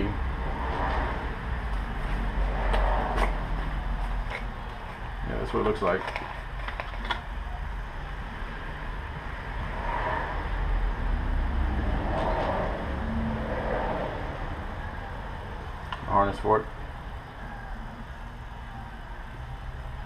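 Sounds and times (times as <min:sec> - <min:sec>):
vehicle rumbling by: 0:00.0 - 0:05.4, 0:07.4 - 0:20.0.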